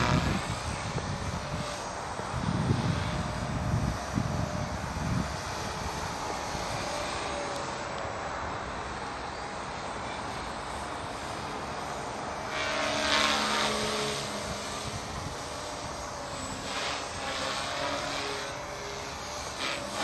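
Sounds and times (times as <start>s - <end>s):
model helicopter motor and rotor drone: 0.0s - 20.0s.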